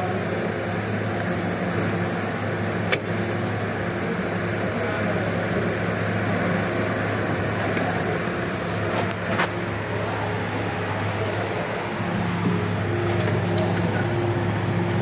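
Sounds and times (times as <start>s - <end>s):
car engine running: 0.4s - 15.0s.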